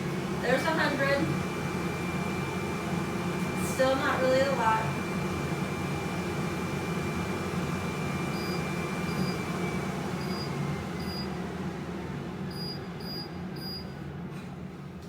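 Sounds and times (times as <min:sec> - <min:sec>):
fan running: 0:00.0 - 0:15.0.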